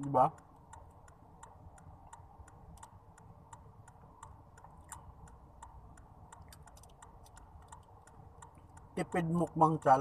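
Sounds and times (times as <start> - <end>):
car idling hum: 0.0 - 10.0
turn signal ticking: 0.0 - 10.0.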